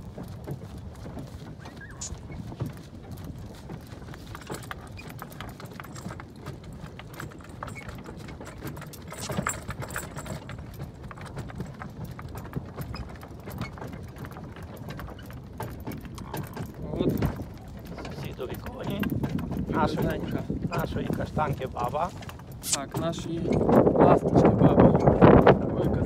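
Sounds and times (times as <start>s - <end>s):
cart wheels and harness rattling: 0.0s - 26.0s
hooves clopping on dirt: 0.0s - 26.0s.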